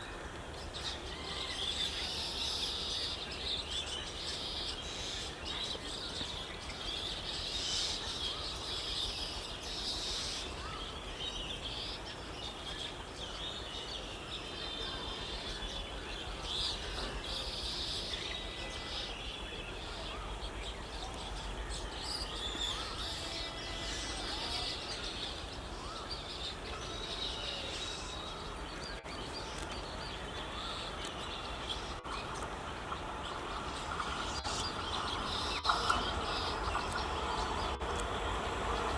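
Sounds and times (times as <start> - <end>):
birds chirping and trilling: 0.0 - 38.9
low background noise: 0.0 - 38.9.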